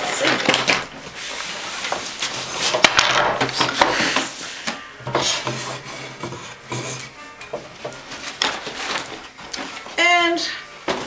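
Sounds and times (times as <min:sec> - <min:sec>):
cardboard parcel being opened: 0:00.0 - 0:07.2, 0:07.8 - 0:10.0.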